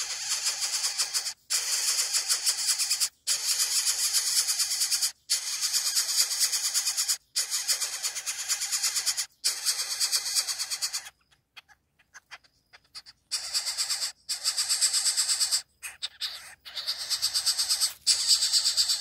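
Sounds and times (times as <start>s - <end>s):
bird chick rasping hiss: 0.0s - 11.3s, 12.0s - 19.0s.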